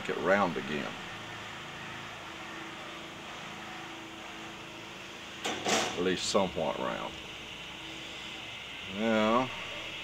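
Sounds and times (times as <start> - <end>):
background hiss: 0.0 - 10.0
faint hum: 0.0 - 10.0.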